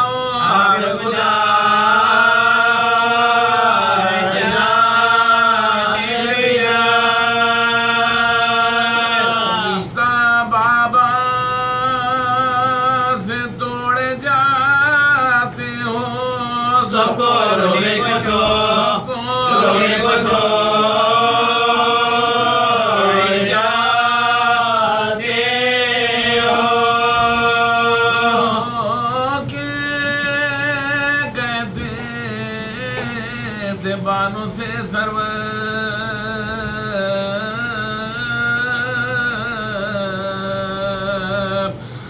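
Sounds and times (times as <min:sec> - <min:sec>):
man chanting unaccompanied: 0:00.0 - 0:41.9.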